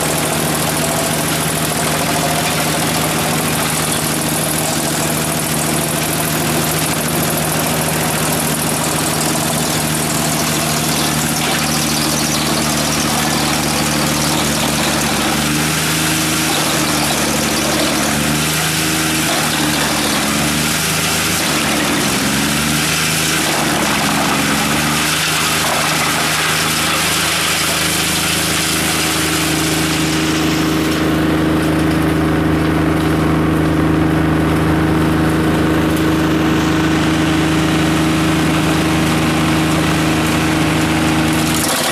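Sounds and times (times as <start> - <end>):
wood chipper diesel engine: 0.0 - 41.9.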